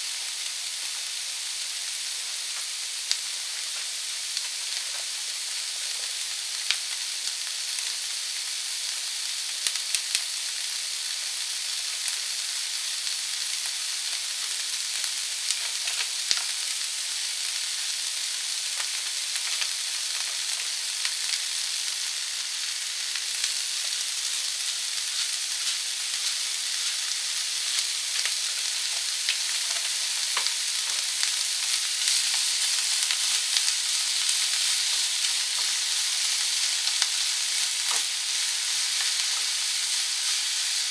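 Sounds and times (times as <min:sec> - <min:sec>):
peppers sizzling in a pan: 0:00.0 - 0:40.9.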